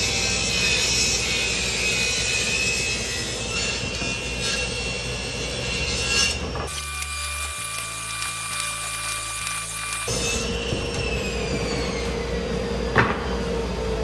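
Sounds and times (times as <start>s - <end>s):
woodshop machinery humming: 0.0s - 14.0s.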